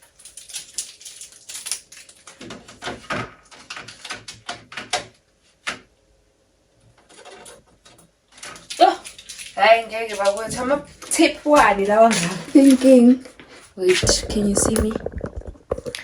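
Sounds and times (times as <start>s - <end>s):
clicks and rustles of handling: 0.0s - 5.9s, 6.8s - 16.0s.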